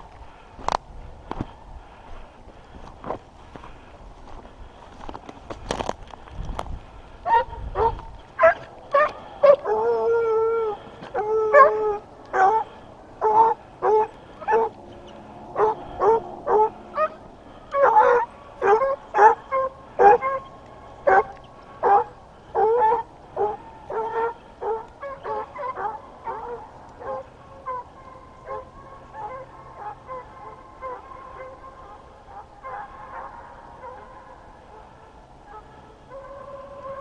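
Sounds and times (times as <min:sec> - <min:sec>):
hounds barking and baying: 0:07.0 - 0:37.0.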